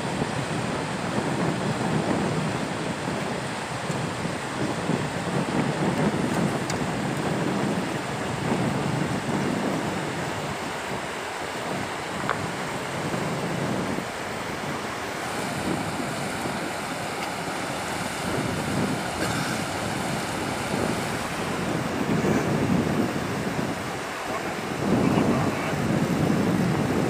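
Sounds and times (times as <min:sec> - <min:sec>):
river water running: 0:00.0 - 0:27.0
wind buffeting microphone: 0:00.0 - 0:27.0.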